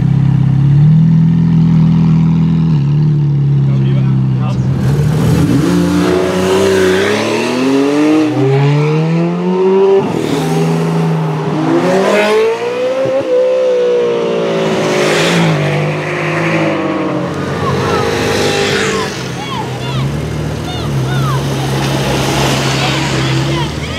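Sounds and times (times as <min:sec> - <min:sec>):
sports car engines accelerating: 0:00.0 - 0:23.9.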